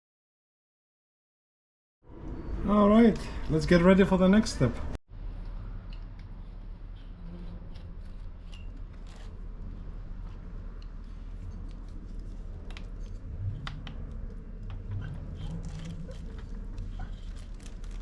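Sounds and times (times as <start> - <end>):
steady low hum: 2.1 - 18.0.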